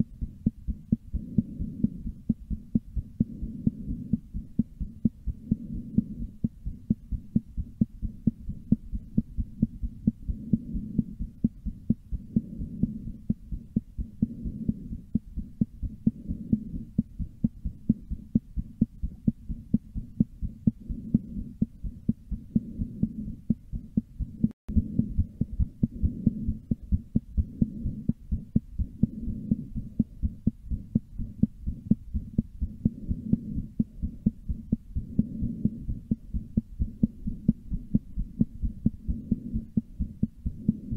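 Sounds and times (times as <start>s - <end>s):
heartbeat thuds: 0.0s - 40.9s.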